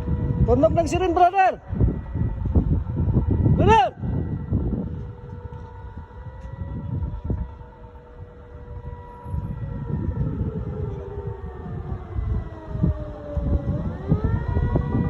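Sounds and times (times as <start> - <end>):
air-raid siren wavering: 0.0 - 15.0.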